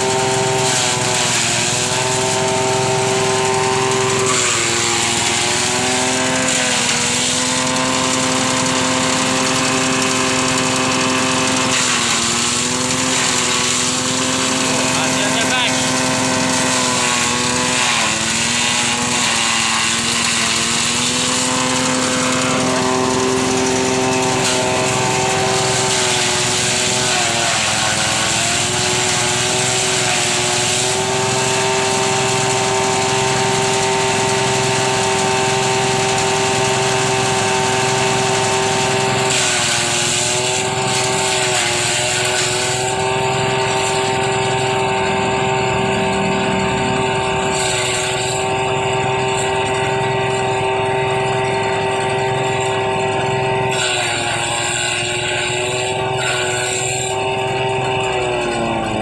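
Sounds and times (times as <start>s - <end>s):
small engine running fast: 0.0s - 59.0s.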